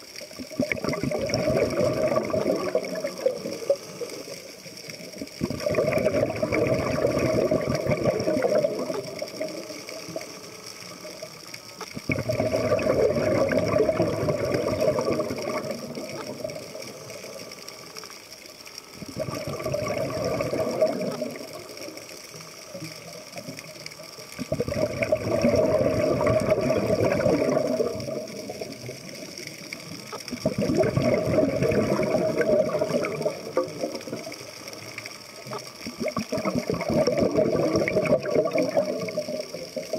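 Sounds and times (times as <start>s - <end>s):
breath bubbling underwater: 0.0s - 10.3s, 11.9s - 17.5s, 19.0s - 21.8s, 24.4s - 29.4s, 30.0s - 34.5s, 35.5s - 39.9s.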